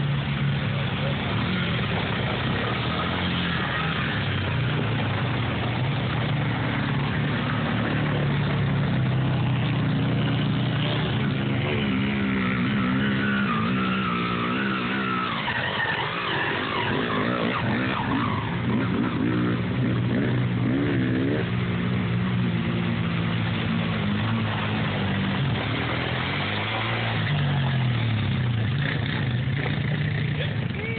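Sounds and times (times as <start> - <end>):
water splashing: 0.0 - 30.8
off-road engines revving: 0.0 - 30.9.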